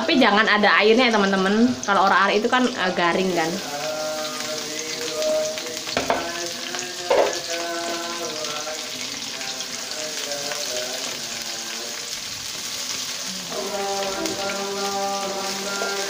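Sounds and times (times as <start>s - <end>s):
hot oil sizzling in a wok: 0.0s - 16.0s.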